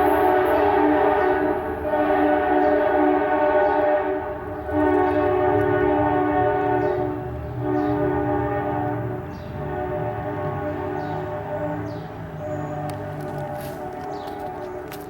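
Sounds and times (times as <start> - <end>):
locomotive air horn blasts: 0.0 - 15.0
rumble of passing locomotives: 0.0 - 15.0.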